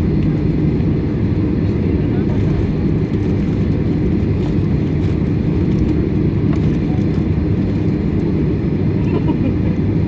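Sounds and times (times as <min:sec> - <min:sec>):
aircraft cabin rumble while taxiing: 0:00.0 - 0:10.0.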